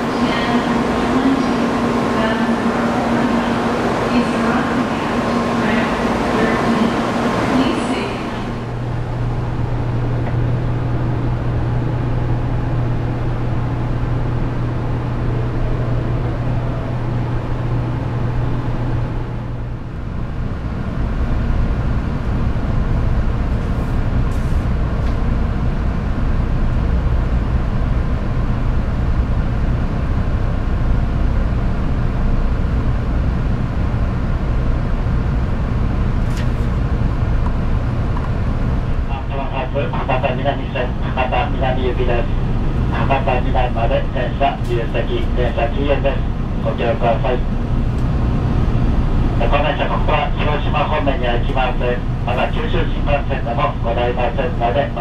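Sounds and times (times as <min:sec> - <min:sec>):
train electrical hum: 0:00.0 - 0:55.0.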